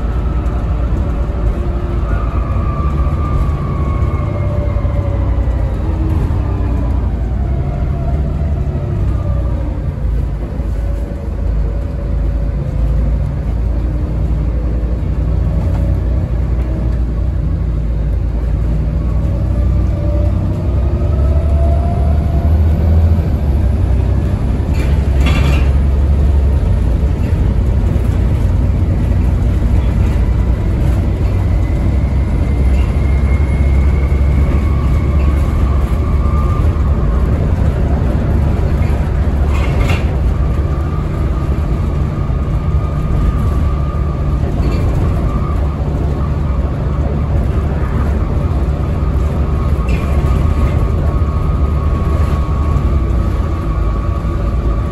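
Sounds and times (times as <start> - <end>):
bus diesel engine rumble: 0.0 - 54.9
drivetrain whine: 0.0 - 54.9.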